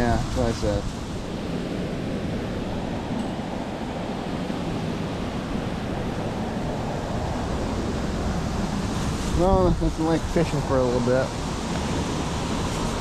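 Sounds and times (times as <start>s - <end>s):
steady low rushing noise: 0.0s - 13.0s.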